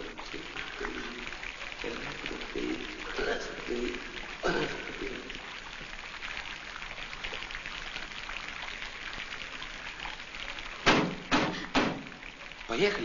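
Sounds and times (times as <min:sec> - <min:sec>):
steady hiss with fine crackle: 0:00.0 - 0:13.0.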